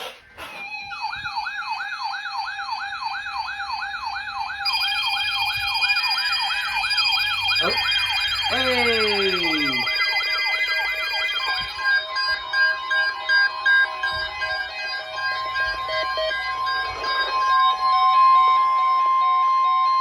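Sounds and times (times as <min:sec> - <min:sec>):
electronic siren yelping: 0:00.1 - 0:20.0
low siren tone gliding down: 0:00.7 - 0:20.0.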